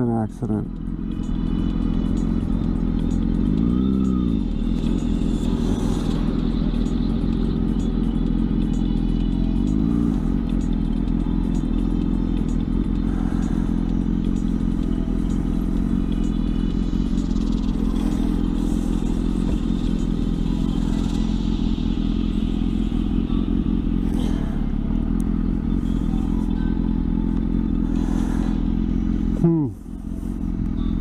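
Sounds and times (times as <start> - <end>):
motorcycle engine revving: 0.7 - 31.0.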